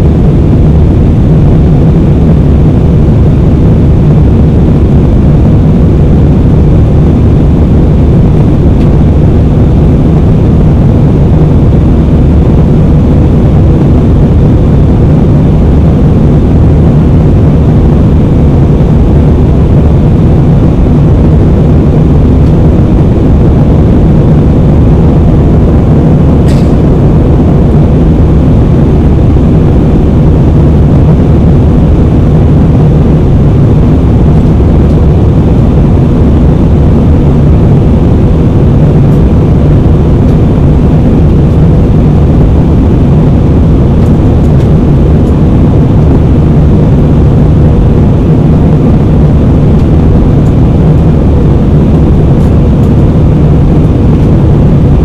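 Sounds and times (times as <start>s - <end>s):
jet engine rumble in cabin: 0.0s - 55.0s.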